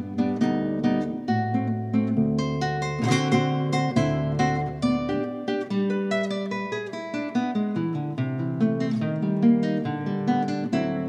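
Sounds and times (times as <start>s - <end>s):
classical guitar fingerstyle: 0.0s - 11.0s.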